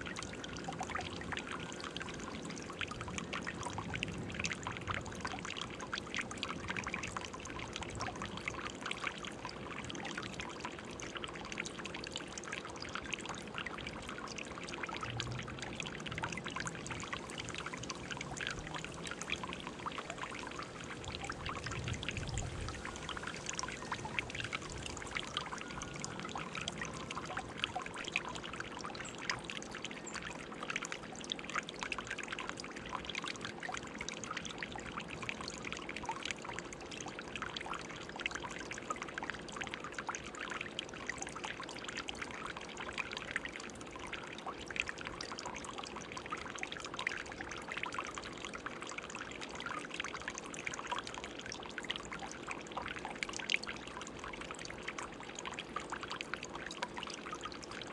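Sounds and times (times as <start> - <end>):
fountain water pouring and trickling: 0.0 - 57.9
small water splashes: 0.0 - 57.9.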